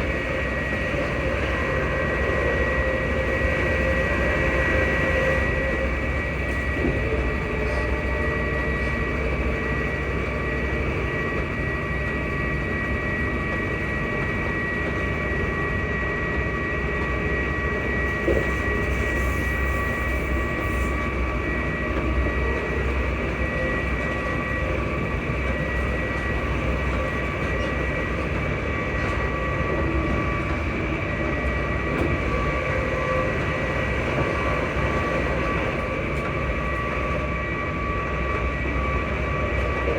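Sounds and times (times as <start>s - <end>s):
traction motor whine: 0.0s - 39.9s
train rumble: 0.0s - 39.9s.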